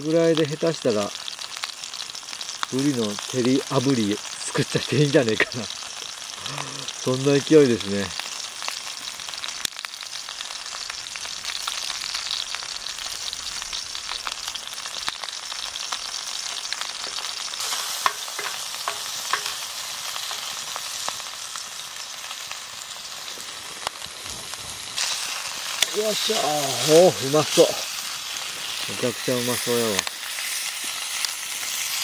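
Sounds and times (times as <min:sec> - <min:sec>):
fish sizzling in oil: 0:00.0 - 0:32.0.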